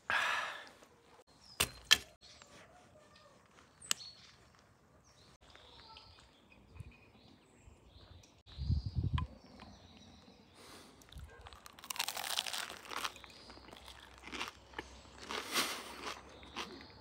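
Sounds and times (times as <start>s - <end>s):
birds chirping faintly: 0.5s - 11.7s, 12.8s - 17.0s.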